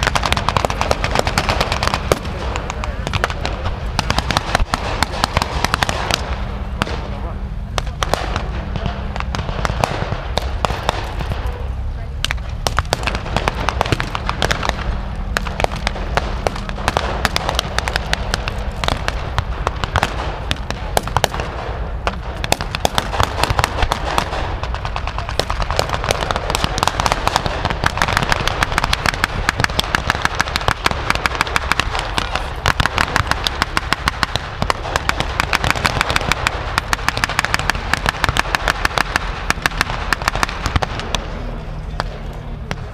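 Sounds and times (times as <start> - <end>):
blank gunfire: 0.0 - 42.9.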